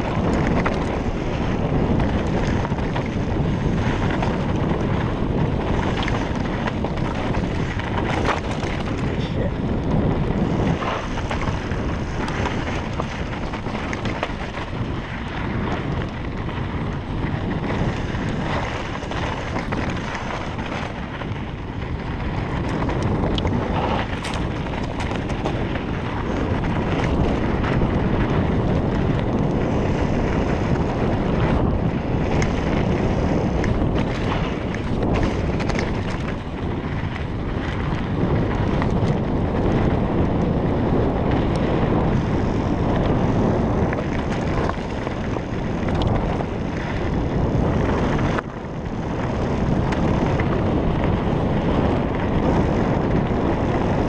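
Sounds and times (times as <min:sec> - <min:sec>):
bike clicking and rattling: 0:00.0 - 0:54.0
bike tyres rumbling on dirt trail: 0:00.0 - 0:54.0
wind buffeting microphone: 0:00.0 - 0:54.0.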